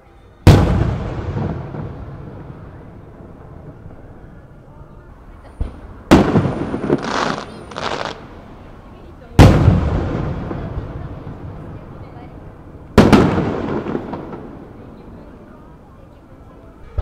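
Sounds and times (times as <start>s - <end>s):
fireworks bursting: 0.4s - 15.9s
fireworks crackle: 0.4s - 15.9s.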